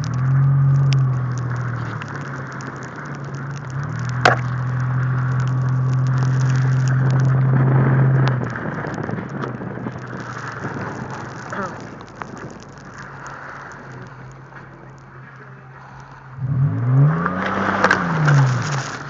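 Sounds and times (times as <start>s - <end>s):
car engine hum: 0.0s - 19.0s
road noise: 0.0s - 19.0s
water spraying off tyres: 0.0s - 19.0s.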